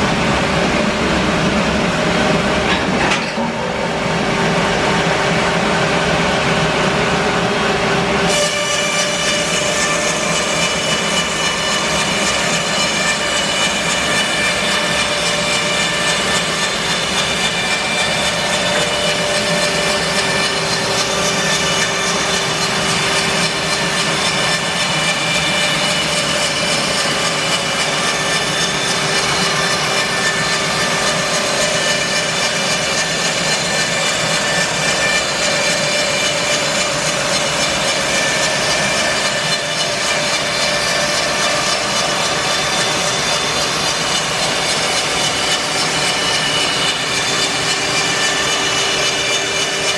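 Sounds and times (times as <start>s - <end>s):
bandsaw cutting wood whine: 0.0s - 49.9s.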